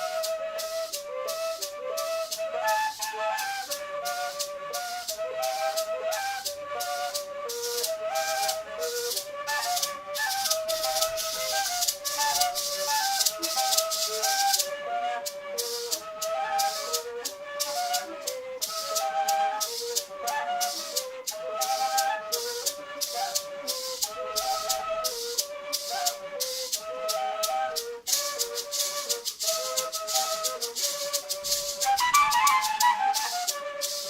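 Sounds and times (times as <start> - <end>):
flute melody: 0.0 - 34.0
maracas shaking: 0.0 - 34.0.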